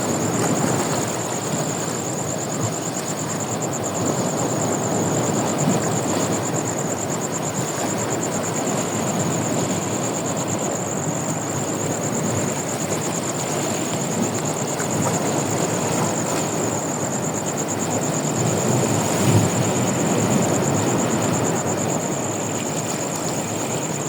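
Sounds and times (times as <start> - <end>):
sea surf roaring: 0.0 - 24.0.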